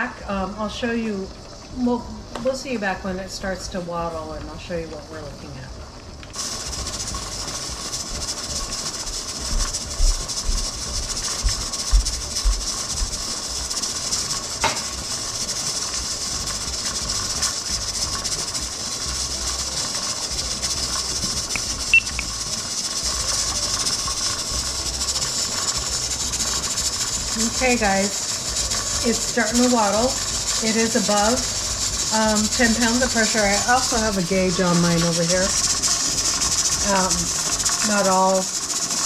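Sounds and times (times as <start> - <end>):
steam hissing from vent: 0.0 - 39.0.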